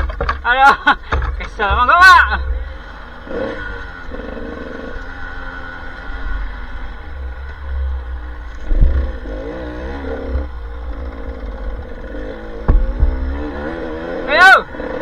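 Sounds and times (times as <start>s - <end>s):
thumps: 0.0s - 14.4s
off-road motorcycle engine revving: 0.0s - 15.0s.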